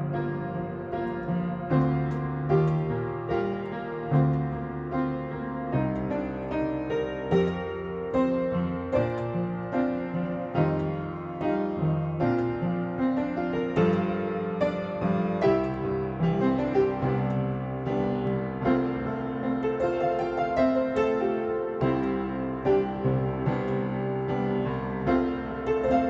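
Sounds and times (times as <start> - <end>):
gentle solo piano: 0.0 - 26.0.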